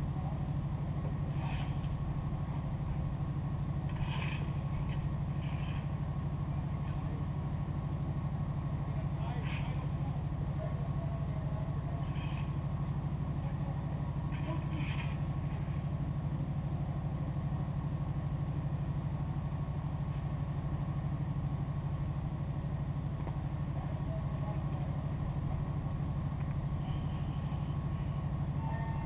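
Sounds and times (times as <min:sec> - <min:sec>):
faint steady whine: 0:00.0 - 0:29.0
ship engines humming: 0:00.0 - 0:29.0.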